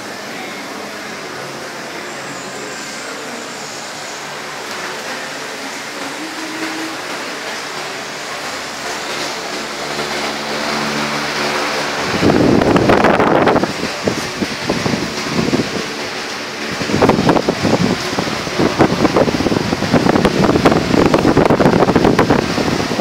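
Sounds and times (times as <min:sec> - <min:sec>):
air buffeting microphone: 0:00.0 - 0:23.0
electric fans whirring: 0:00.0 - 0:23.0.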